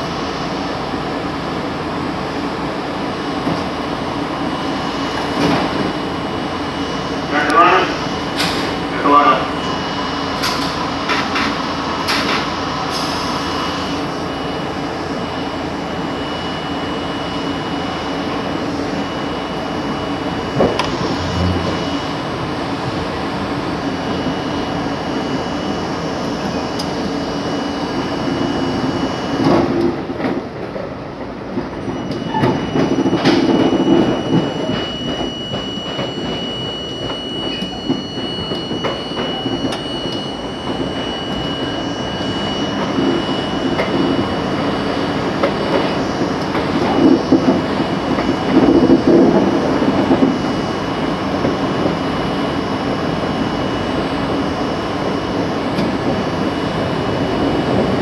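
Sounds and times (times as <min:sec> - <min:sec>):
subway wheels rumbling on rail: 0:00.0 - 0:58.0
steady high-pitched tone: 0:04.2 - 0:30.2, 0:31.9 - 0:58.0.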